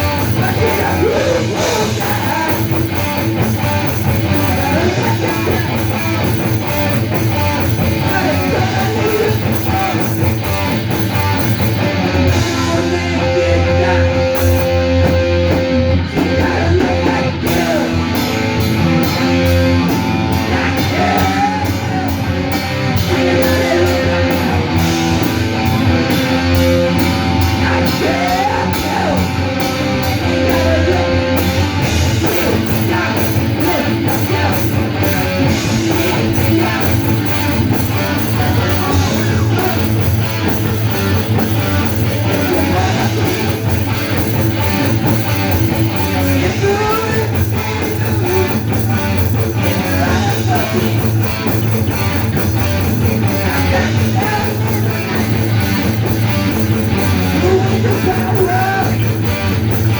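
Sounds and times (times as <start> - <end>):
person singing: 0.0 - 59.6
rock band playing live: 0.0 - 59.9.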